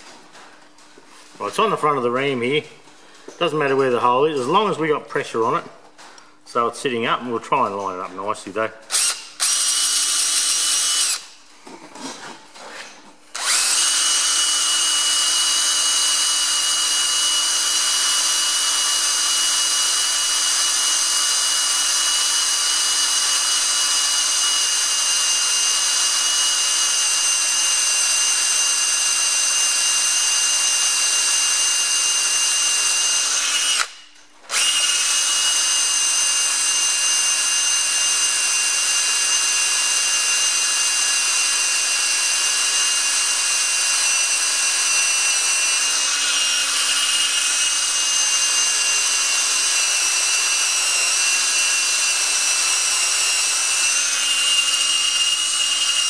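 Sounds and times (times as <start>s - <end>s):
cordless drill drilling metal: 8.9s - 11.4s, 13.3s - 56.0s.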